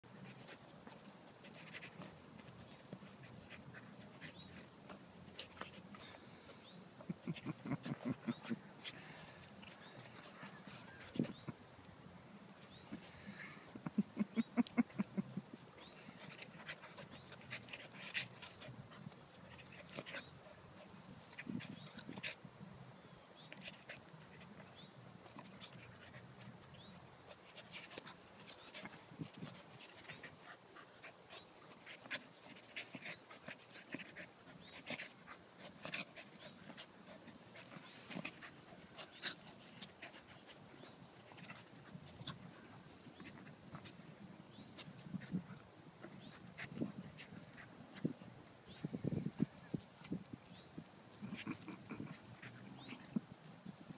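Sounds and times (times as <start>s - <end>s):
dogs panting: 0.1s - 11.6s, 12.6s - 22.5s, 23.1s - 53.5s
dogs play noises: 0.1s - 53.9s.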